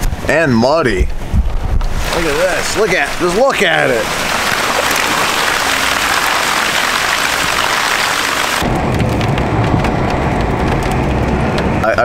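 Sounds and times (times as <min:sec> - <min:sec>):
engine and road rumble: 0:00.0 - 0:12.0
wind and rain hiss: 0:00.0 - 0:12.0.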